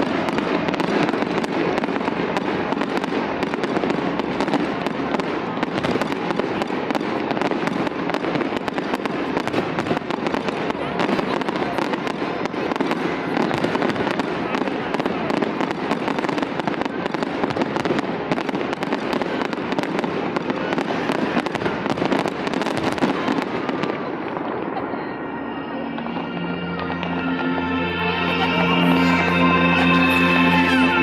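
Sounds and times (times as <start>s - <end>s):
fireworks crackling and banging: 0.0s - 31.0s.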